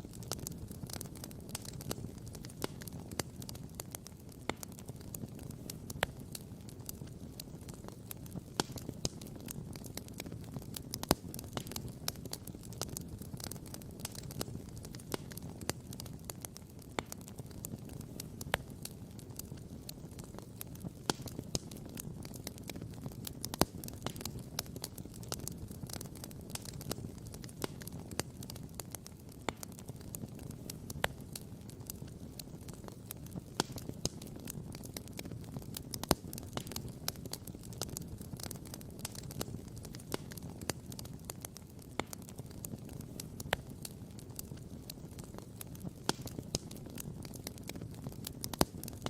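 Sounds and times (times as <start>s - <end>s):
campfire crackling and popping: 0.0s - 49.0s
low fire rumble: 0.0s - 49.0s.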